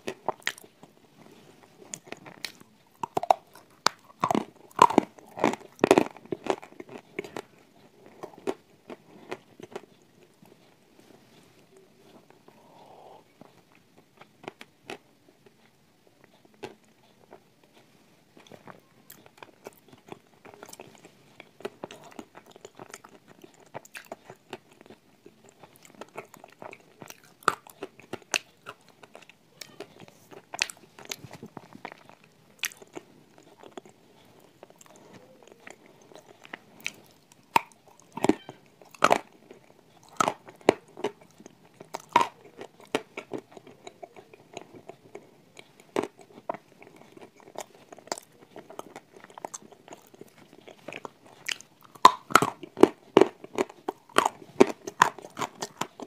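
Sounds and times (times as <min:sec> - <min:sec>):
clay crunching and chewing: 0:00.0 - 0:56.0.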